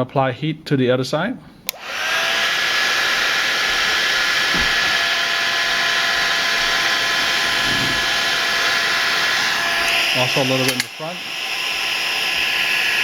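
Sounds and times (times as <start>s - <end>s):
heat gun fan whine: 1.6s - 13.0s.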